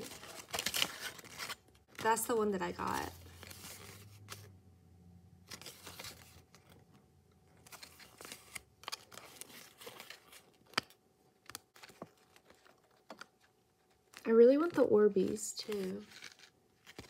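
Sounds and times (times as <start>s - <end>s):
paper rustling and crinkling: 0.0s - 4.5s, 5.5s - 17.0s.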